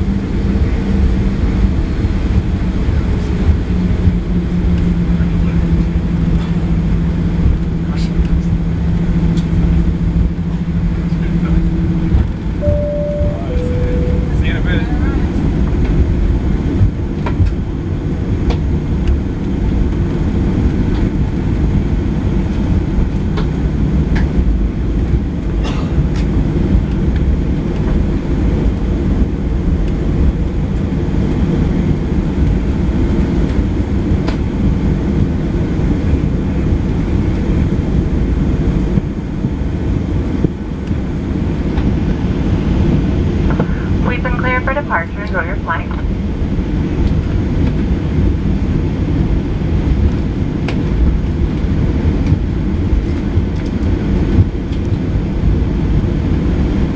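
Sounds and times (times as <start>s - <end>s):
jet engines at taxi power: 0.0s - 56.9s.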